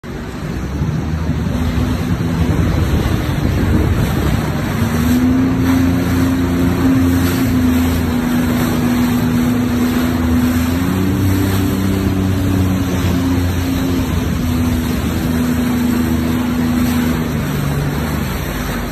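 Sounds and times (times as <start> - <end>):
water splashing against hull: 0.0 - 18.9
watercraft engine running: 0.0 - 18.9.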